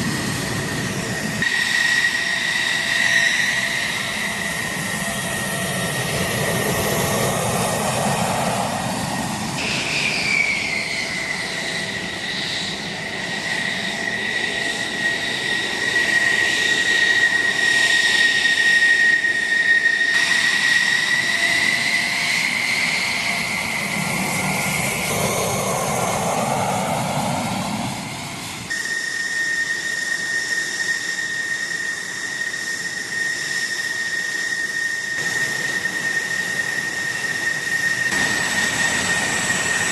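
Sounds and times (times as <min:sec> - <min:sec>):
jet engines whining and roaring: 0:00.0 - 0:39.9.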